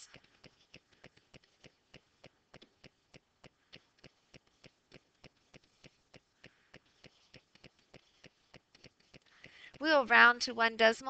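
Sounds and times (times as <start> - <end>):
faint ticking: 0.0 - 10.8.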